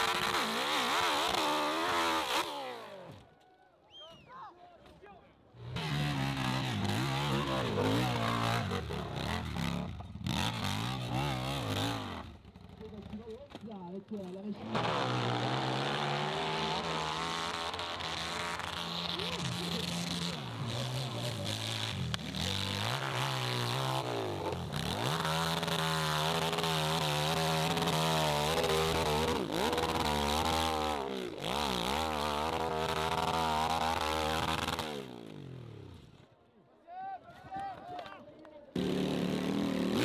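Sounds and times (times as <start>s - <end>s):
dirt bike engine revving: 0.0s - 3.2s, 5.6s - 13.3s, 14.2s - 36.2s, 38.8s - 40.0s.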